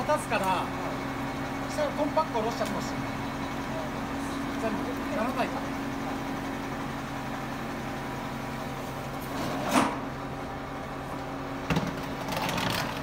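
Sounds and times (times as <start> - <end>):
diesel engine idling: 0.0 - 9.4, 10.0 - 13.0.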